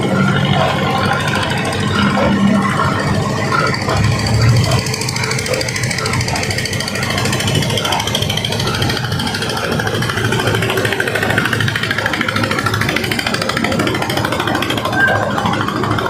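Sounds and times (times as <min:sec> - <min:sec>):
boat engine chugging: 0:00.0 - 0:16.0.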